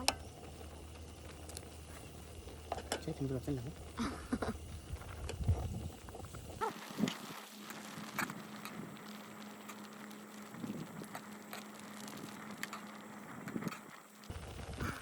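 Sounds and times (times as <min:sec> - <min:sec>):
camp stove hissing: 0:00.0 - 0:15.0
noodle soup boiling: 0:00.0 - 0:15.0.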